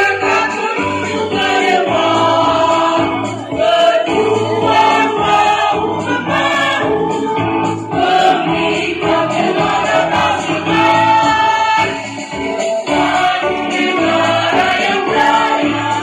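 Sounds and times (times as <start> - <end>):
mixed choir singing in harmony: 0.0 - 16.0.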